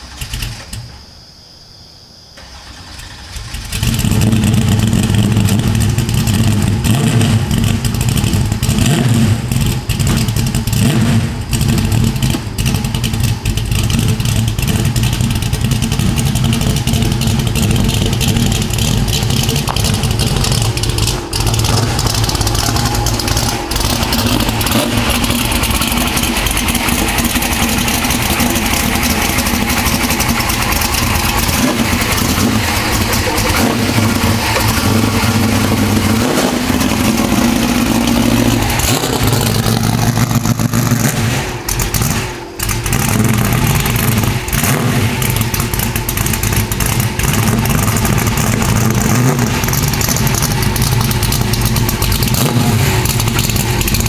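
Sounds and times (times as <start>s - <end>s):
car engine exhaust note: 3.6s - 54.0s.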